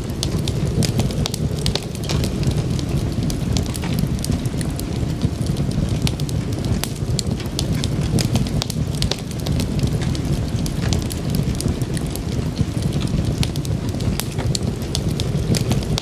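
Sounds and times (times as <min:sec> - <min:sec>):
fire crackling and popping: 0:00.0 - 0:16.0
wood fire burning: 0:00.0 - 0:16.0.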